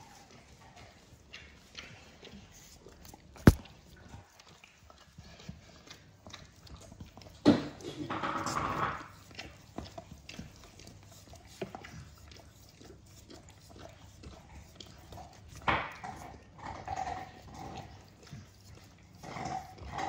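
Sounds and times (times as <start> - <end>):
dog licking metal bowl: 0.0 - 20.0.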